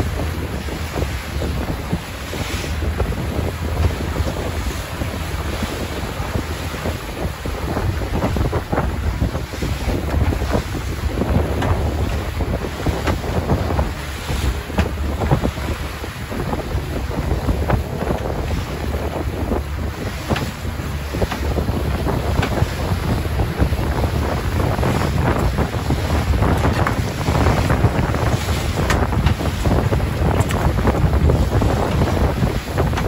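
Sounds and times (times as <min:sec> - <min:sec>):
hull slaps and splashes: 0:00.0 - 0:33.0
outboard motor drone: 0:00.0 - 0:33.0
wind buffeting microphone: 0:00.0 - 0:33.0.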